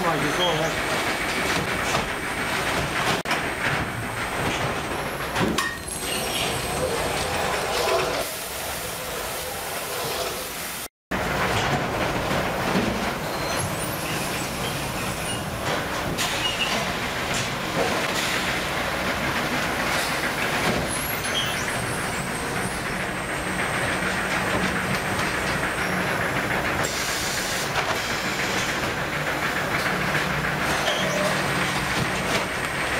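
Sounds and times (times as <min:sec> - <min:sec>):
machine knocks and clanks: 0:00.0 - 0:08.1, 0:11.1 - 0:32.9.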